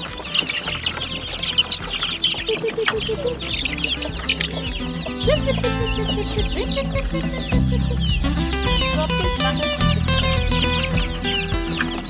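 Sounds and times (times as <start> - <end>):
plucked guitar music: 0.0 - 12.0
turkey poults peeping: 0.0 - 12.0.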